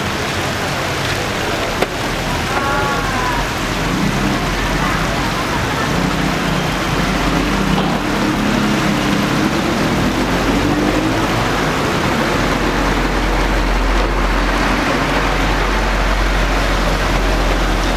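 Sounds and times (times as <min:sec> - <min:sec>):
running water rushing: 0:00.0 - 0:17.9
vehicle engine: 0:00.0 - 0:17.9.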